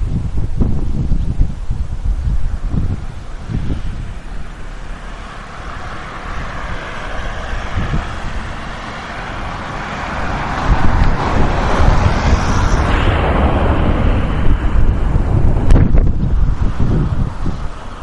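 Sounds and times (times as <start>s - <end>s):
wind rumble on microphone: 0.0s - 18.0s
jet engines whining: 1.9s - 18.0s.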